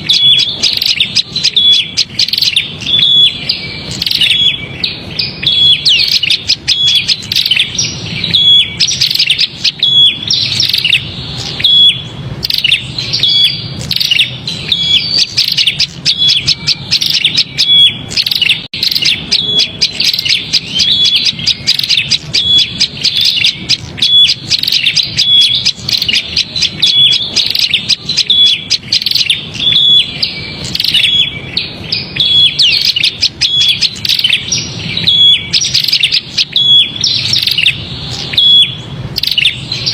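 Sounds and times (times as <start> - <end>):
bird fussing chatter calls: 0.0 - 39.9.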